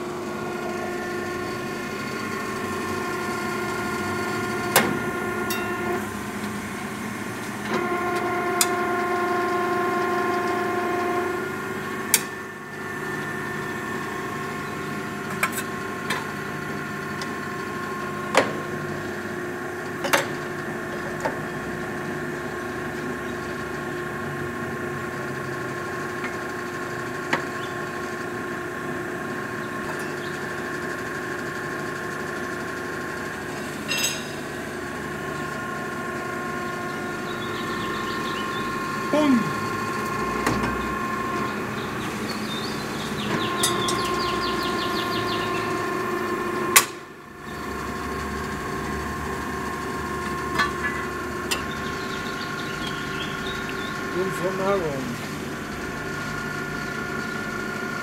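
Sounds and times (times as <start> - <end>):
hydraulic motor and pump humming: 0.0 - 58.0.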